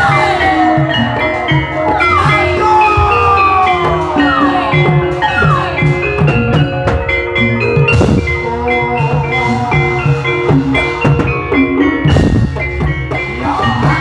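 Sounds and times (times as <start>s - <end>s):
drum strokes: 0.0s - 14.0s
tuned percussion ringing notes: 0.0s - 14.0s.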